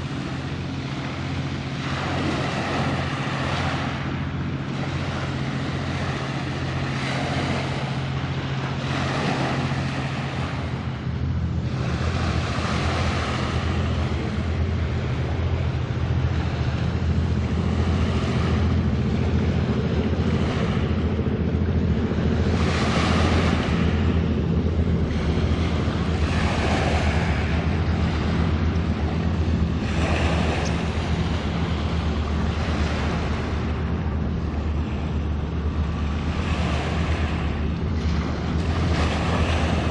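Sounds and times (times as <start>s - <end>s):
rushing water and wind: 0.0s - 39.9s
ship engines droning: 0.0s - 39.9s.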